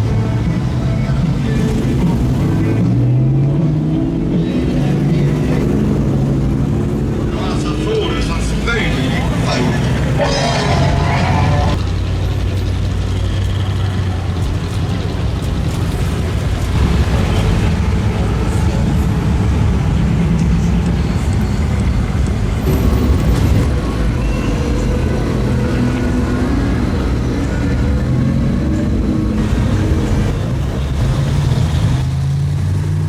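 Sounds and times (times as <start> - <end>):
car engines at low speed: 0.0 - 33.0
traffic noise: 0.0 - 33.0.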